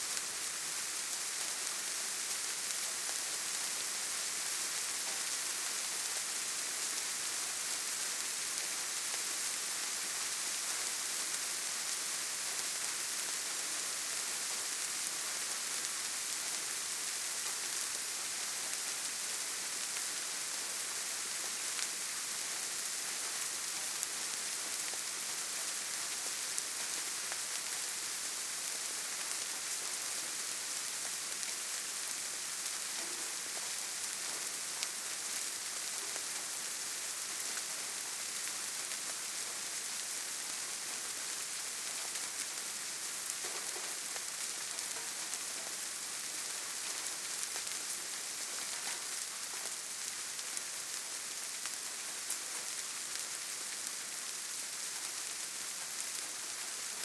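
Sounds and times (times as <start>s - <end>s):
rain on leaves and ground: 0.0s - 57.0s.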